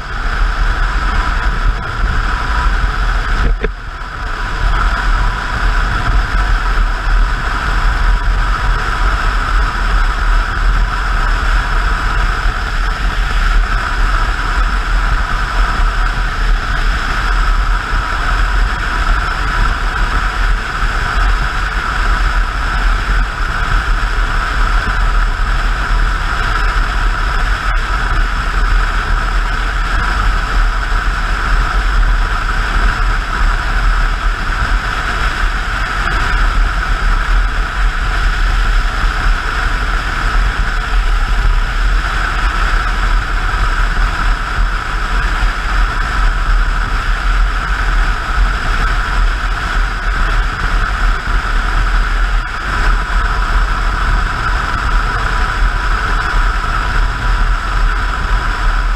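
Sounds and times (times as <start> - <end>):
motorcycle engine drone: 0.0 - 58.9.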